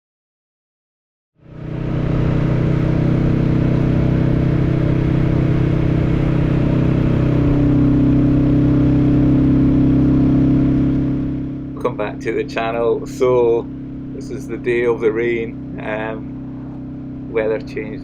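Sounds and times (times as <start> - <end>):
motorcycle engine running: 1.4 - 18.0.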